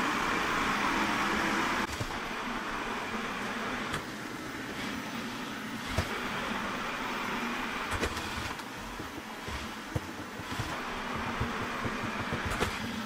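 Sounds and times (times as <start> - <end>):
robot vacuum hissing: 1.8 - 13.0.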